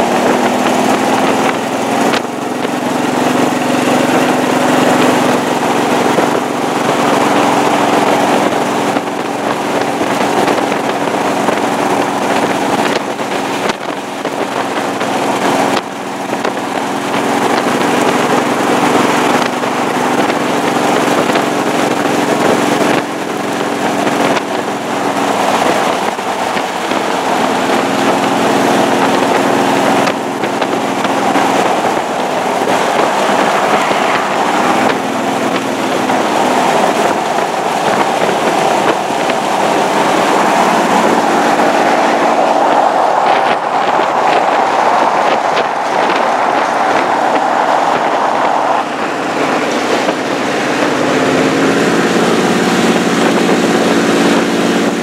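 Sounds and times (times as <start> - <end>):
car engine running steadily: 0.0 - 55.0
wind buffeting microphone: 0.0 - 55.0.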